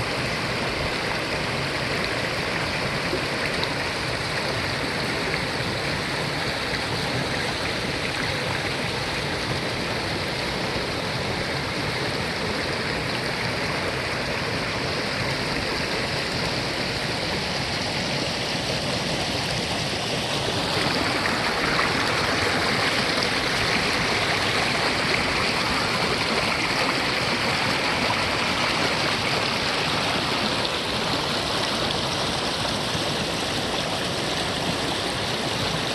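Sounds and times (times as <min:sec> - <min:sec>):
stream flowing: 0:00.0 - 0:35.9.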